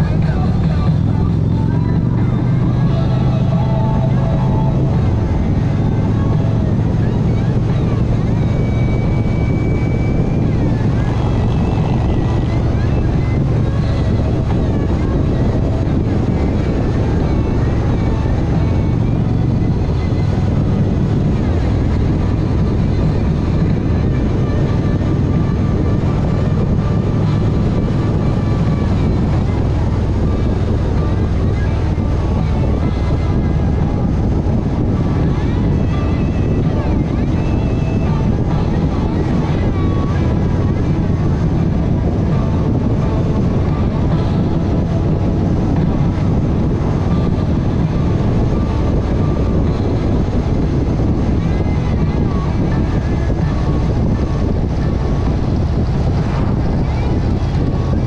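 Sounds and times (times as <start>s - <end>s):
vehicle engine drone: 0.0s - 58.0s
wind buffeting microphone: 0.0s - 58.0s.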